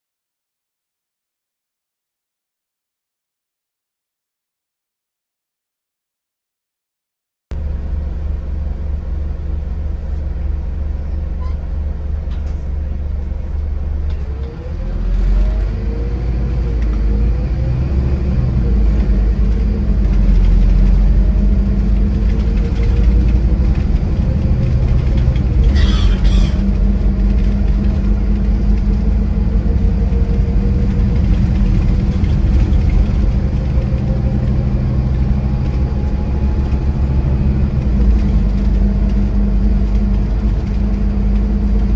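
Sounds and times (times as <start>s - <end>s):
coach engine accelerating: 7.5s - 41.9s.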